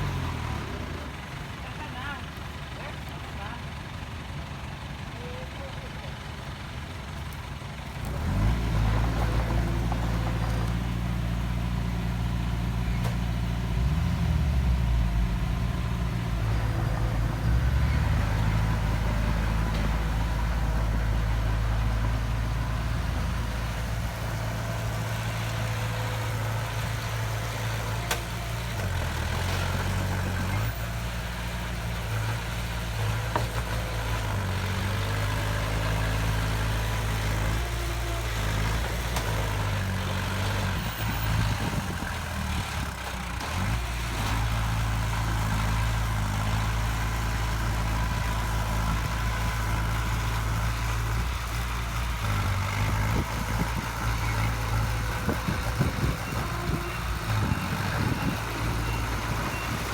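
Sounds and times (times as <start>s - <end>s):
heavy machine diesel engine running: 0.0s - 59.9s.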